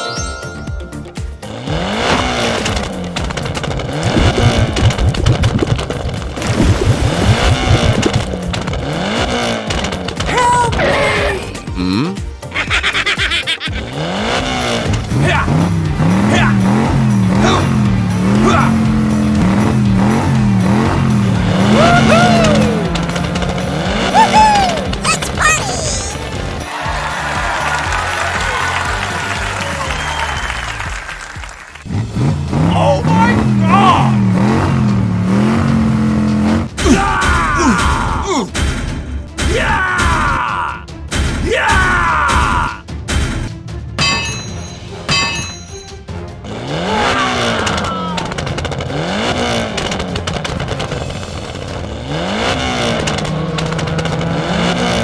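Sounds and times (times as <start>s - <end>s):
background music: 0.0s - 55.0s
vehicle engine: 0.9s - 39.7s, 40.9s - 55.0s.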